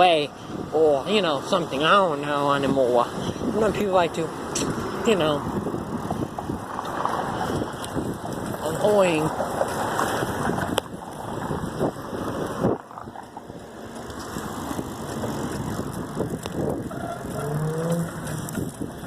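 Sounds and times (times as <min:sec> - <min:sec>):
street traffic: 0:00.0 - 0:19.0
wind rumbling on microphone: 0:00.0 - 0:19.0.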